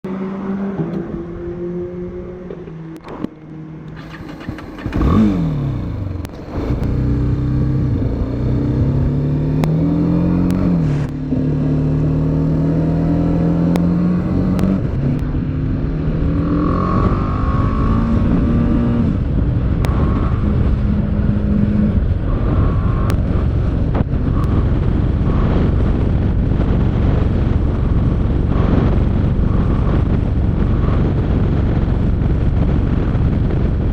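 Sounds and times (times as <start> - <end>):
motorcycle engine revving: 0.0 - 33.9
wind and road rushing: 0.1 - 33.9.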